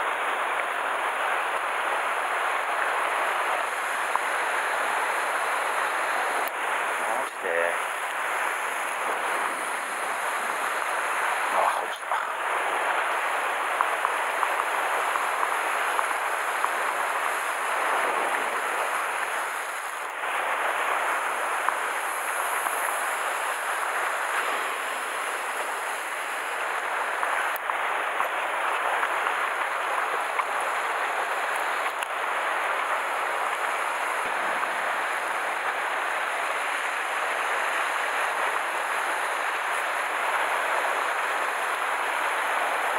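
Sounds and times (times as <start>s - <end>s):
sea surf washing on rocks: 0.0s - 42.9s.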